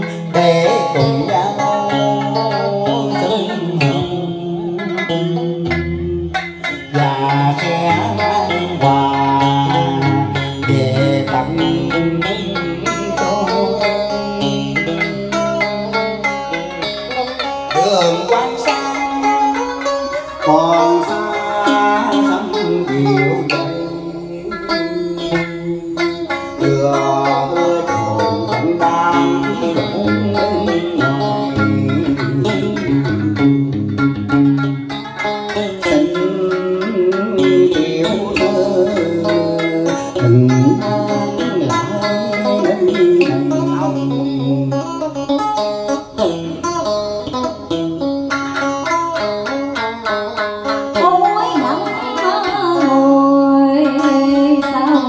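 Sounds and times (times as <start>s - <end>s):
electric guitar melody: 0.0s - 55.0s
plucked string instrument melody: 0.0s - 55.0s.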